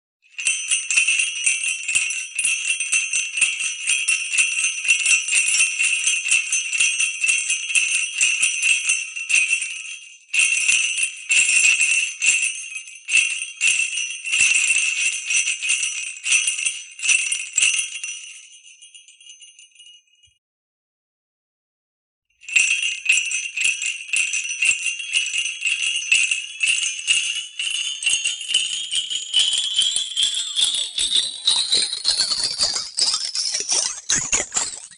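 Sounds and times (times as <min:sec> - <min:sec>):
jingle bells shaken: 0:00.3 - 0:20.4, 0:22.4 - 0:34.9.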